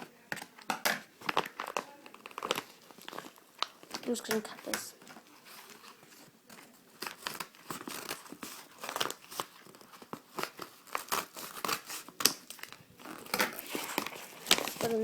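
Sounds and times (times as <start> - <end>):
packaging being torn open: 0.7 - 5.9, 6.5 - 15.0.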